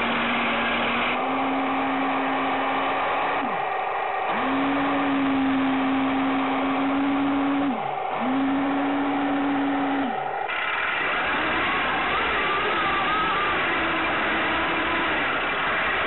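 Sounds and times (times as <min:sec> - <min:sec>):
toy tank motor whining: 0:00.0 - 0:16.0.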